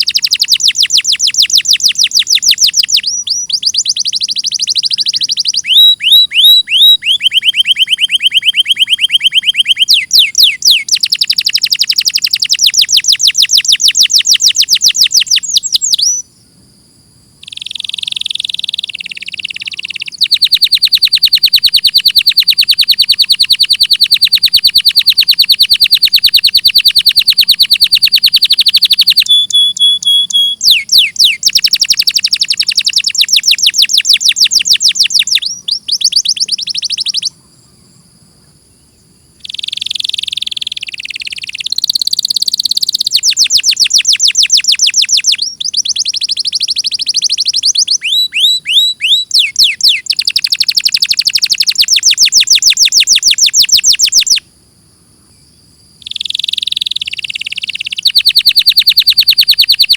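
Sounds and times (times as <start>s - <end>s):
canary singing trills: 0.0s - 16.4s, 17.4s - 37.9s, 38.7s - 54.5s, 56.0s - 59.9s.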